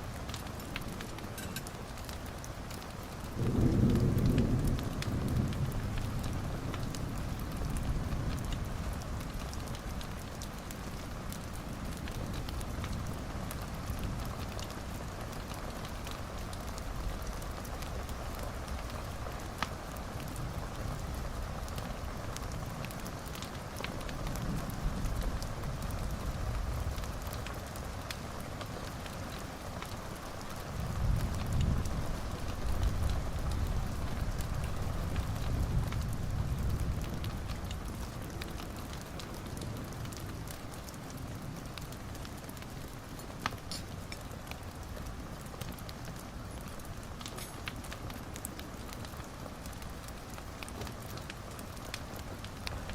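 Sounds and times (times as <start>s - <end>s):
fire popping: 0.0s - 52.9s
wood fire crackling: 0.0s - 52.9s.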